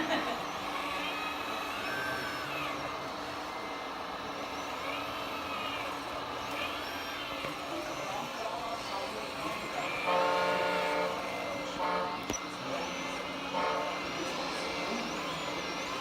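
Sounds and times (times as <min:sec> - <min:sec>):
model machines mechanical hum: 0:00.0 - 0:16.0
short rising and falling whines: 0:00.0 - 0:16.0.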